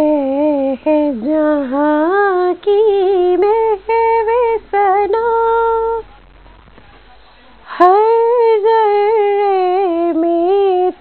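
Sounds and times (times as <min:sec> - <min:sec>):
woman singing unaccompanied: 0:00.0 - 0:06.1, 0:07.6 - 0:11.0.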